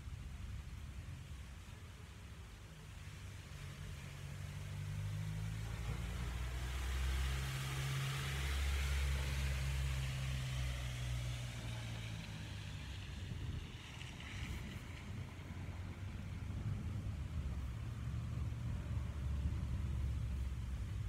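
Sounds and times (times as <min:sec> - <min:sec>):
vehicle passing by: 0:02.7 - 0:21.0.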